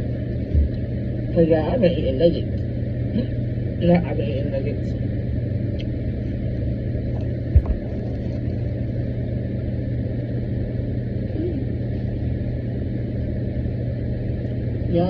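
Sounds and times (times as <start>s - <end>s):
low rumble with hum: 0.0s - 15.0s.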